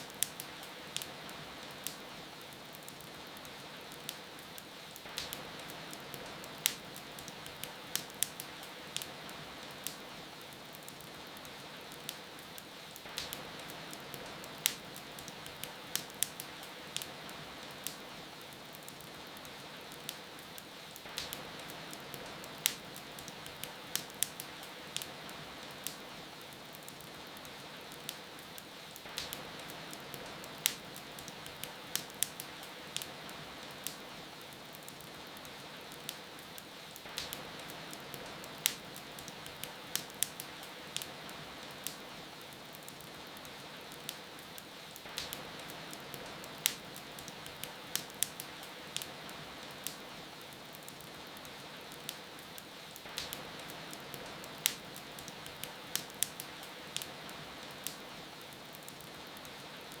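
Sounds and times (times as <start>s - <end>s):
rain patter: 0.0s - 60.0s
wood fire crackling: 0.0s - 60.0s.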